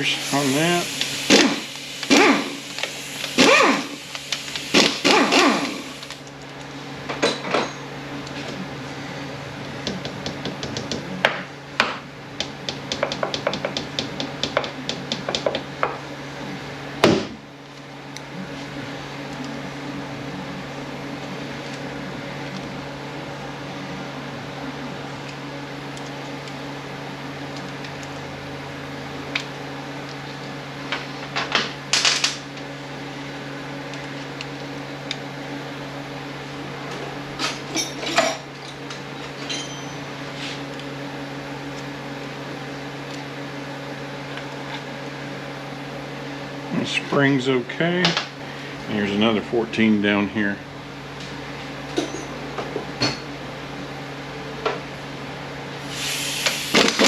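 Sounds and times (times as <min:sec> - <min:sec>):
low shop hum: 0:00.0 - 0:57.0.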